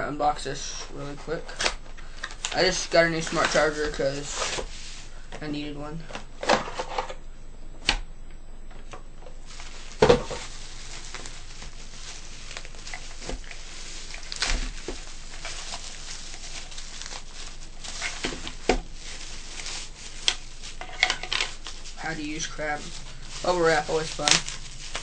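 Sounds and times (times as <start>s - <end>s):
packaging rustling and crinkling: 0.7s - 5.4s, 8.8s - 25.0s.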